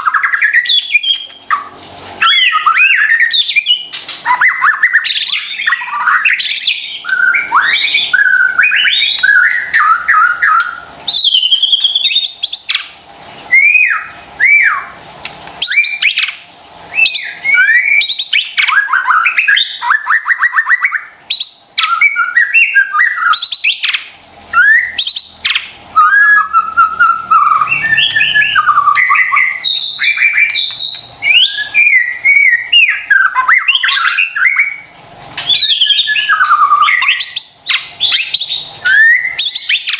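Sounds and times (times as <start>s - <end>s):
bird singing whistled song: 0.0s - 1.5s, 2.2s - 12.8s, 13.5s - 14.9s, 15.6s - 24.0s, 24.6s - 39.9s.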